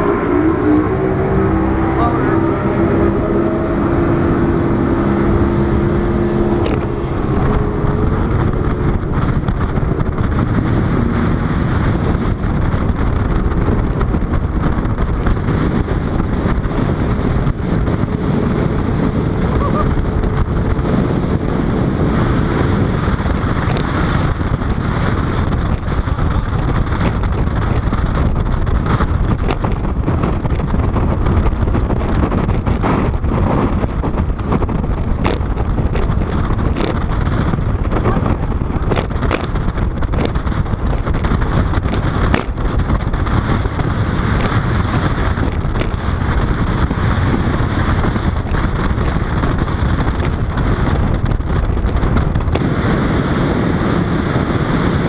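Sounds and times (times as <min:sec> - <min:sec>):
outboard engine hum: 0:00.0 - 0:55.0
wind rushing over microphone: 0:00.0 - 0:55.0.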